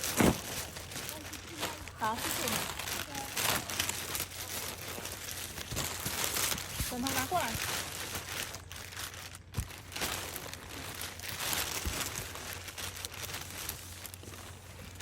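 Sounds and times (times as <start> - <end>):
bags crinkling and rustling: 0.0 - 15.0.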